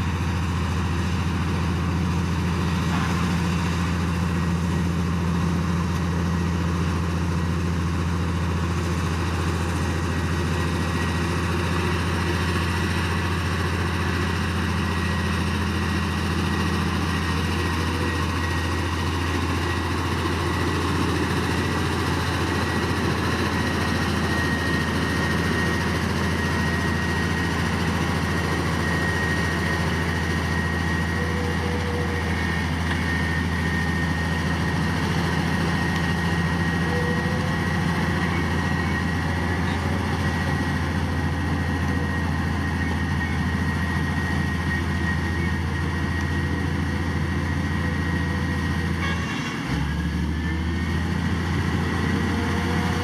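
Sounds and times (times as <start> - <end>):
thin steady whine: 0.0 - 49.2
diesel engine droning: 0.0 - 53.0.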